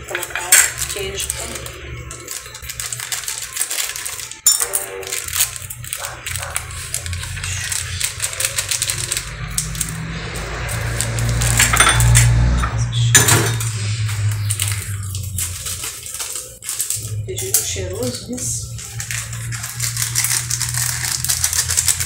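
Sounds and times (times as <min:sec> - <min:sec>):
plastic sachets crinkling: 0:00.0 - 0:12.6, 0:13.6 - 0:22.0.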